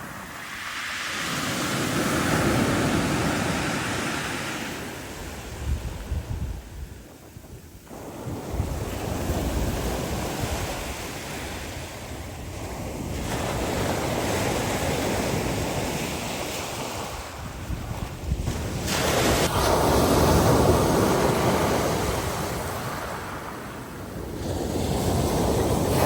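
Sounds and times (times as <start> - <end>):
waves washing onto shore: 0.0 - 26.0
wind buffeting microphone: 1.1 - 26.0.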